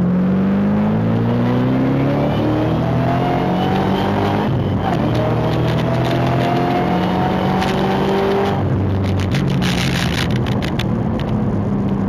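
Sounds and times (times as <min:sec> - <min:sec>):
supercharged car engine at full pace: 0:00.0 - 0:12.0.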